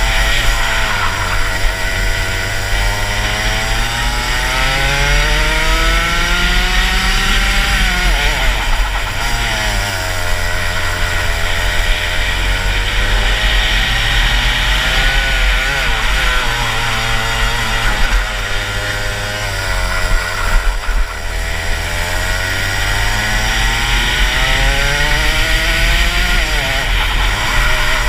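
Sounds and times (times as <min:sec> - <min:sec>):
kart engine revving: 0:00.0 - 0:28.0.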